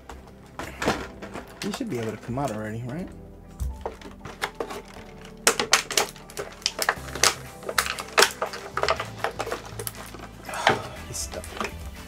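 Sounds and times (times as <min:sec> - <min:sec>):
plastic packaging crackling and clicking: 0:00.0 - 0:12.0.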